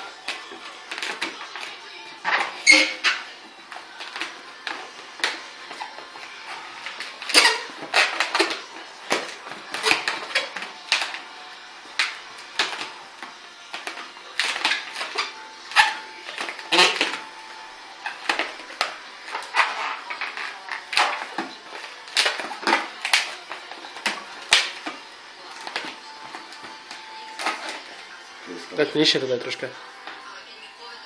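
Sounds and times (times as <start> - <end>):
balloon squeaking and creaking: 0.0 - 29.2.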